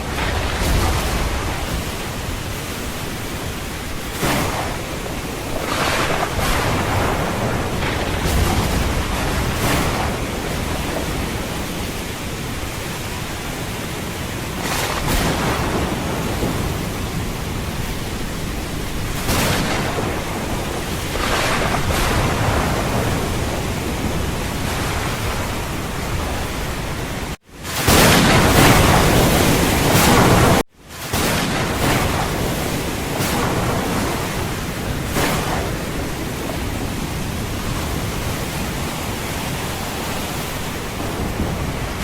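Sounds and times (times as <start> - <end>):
rumbles of thunder: 0.0 - 13.3, 14.6 - 42.0
steady rain hiss: 0.0 - 42.0.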